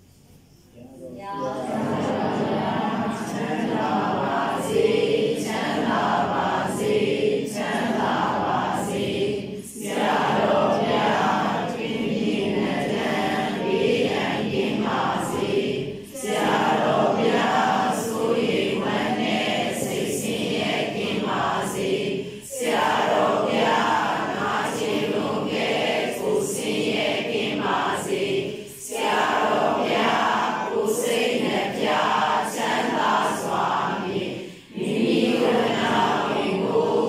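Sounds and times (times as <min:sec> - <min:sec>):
women chanting in unison: 0:01.0 - 0:37.0.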